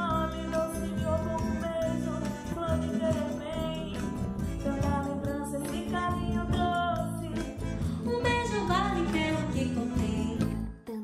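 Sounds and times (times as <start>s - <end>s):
band playing instrumental music: 0.0s - 10.6s.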